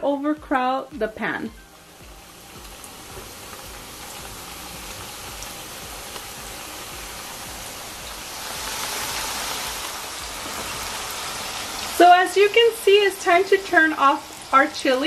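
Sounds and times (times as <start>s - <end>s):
tortillas sizzling in hot oil: 0.4s - 15.0s.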